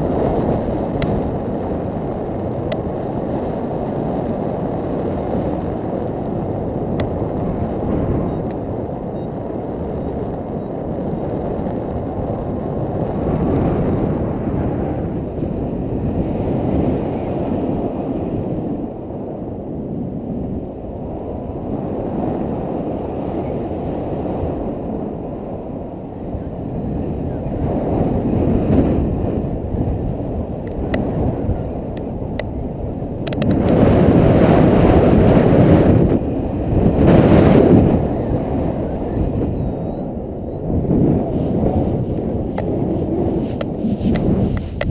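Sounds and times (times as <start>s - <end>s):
wind rumble on camera: 0.0s - 44.9s.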